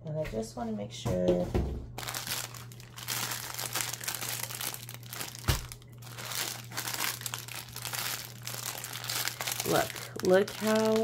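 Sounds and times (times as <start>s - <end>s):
plastic wrap crinkling: 2.0s - 11.0s.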